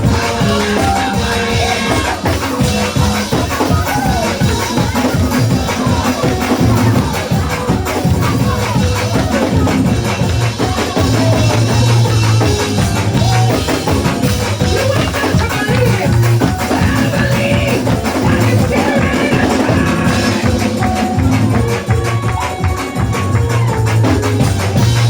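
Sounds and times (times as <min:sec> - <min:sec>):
gospel band music: 0:00.0 - 0:25.0
tambourine shaking: 0:00.0 - 0:25.0.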